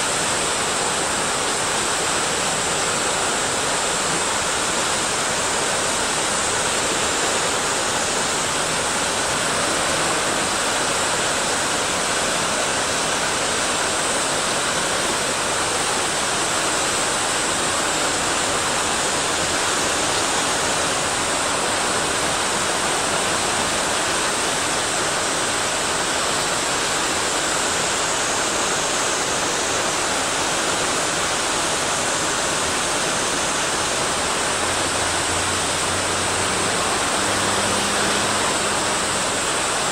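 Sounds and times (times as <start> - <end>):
rushing water in a stream: 0.0 - 39.9.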